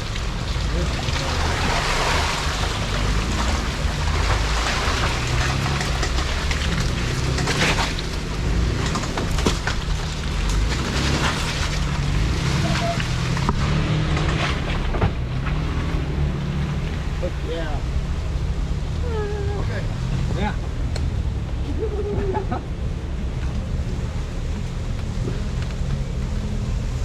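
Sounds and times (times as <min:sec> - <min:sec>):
car engine running low: 0:00.0 - 0:27.0
water splashing and sloshing: 0:00.0 - 0:27.0.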